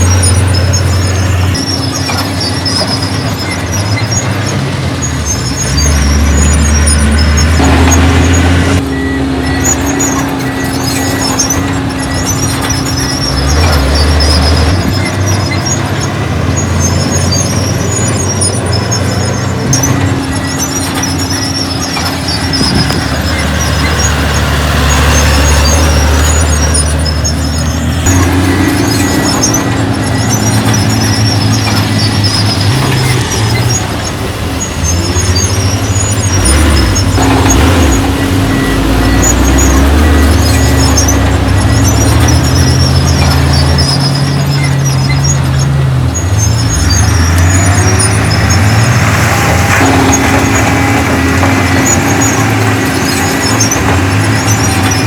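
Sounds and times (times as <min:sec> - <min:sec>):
heavy diesel machinery running: 0:00.0 - 0:55.0
high-pitched metallic squeaks: 0:00.0 - 0:55.0.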